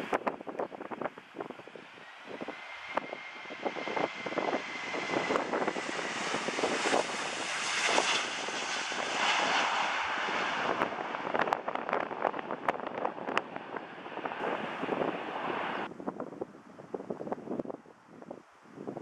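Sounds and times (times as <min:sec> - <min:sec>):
jet engine roar: 0:00.0 - 0:15.9.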